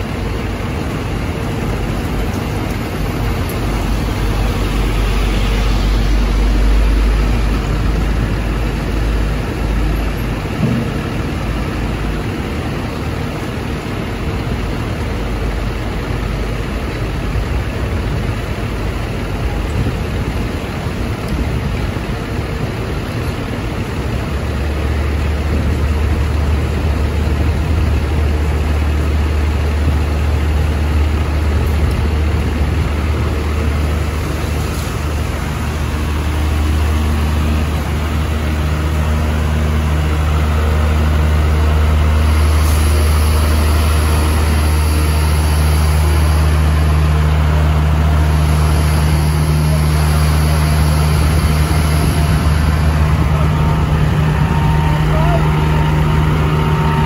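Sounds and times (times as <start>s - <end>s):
truck engines humming: 0.0s - 57.0s.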